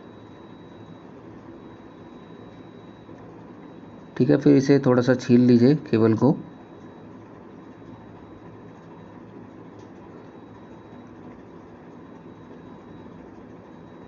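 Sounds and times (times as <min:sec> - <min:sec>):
room noise hum and hiss: 0:00.0 - 0:14.0.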